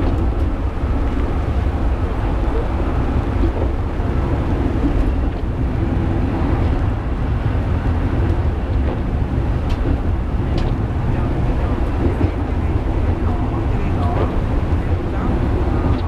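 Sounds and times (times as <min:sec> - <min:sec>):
wheels rumbling on rails: 0:00.0 - 0:16.0.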